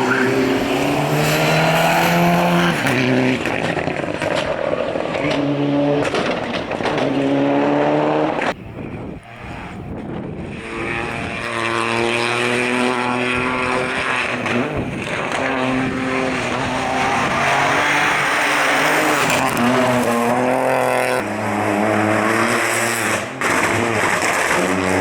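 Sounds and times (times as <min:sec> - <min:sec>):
car accelerating: 0:00.0 - 0:25.0
rally car engines at full throttle: 0:00.0 - 0:25.0.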